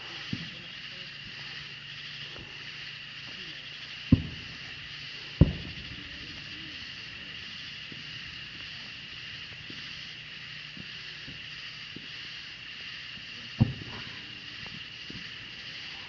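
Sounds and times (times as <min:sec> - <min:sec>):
firework bangs: 0:00.0 - 0:16.0
night insects chirring: 0:00.0 - 0:16.0.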